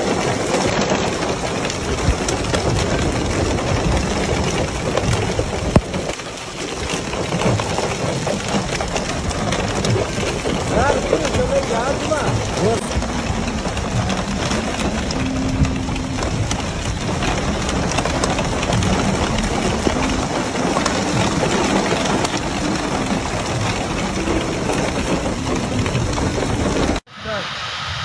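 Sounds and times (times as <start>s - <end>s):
hailstones clattering: 0.0s - 27.1s.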